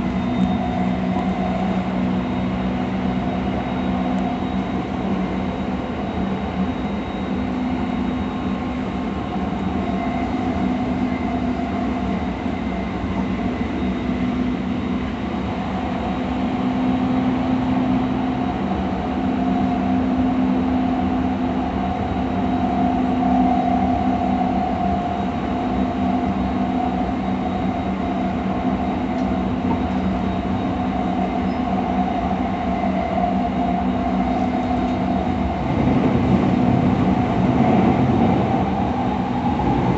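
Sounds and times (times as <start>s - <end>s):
train wheels running on rails: 0.0s - 39.9s.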